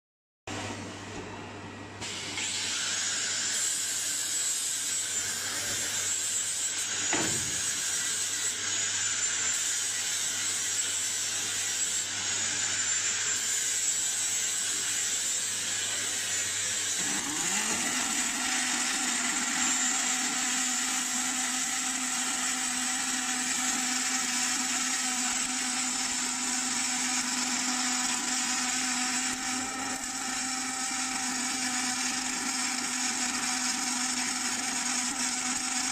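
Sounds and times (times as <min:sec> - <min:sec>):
welding machine whirring and hissing: 0:02.0 - 0:35.9.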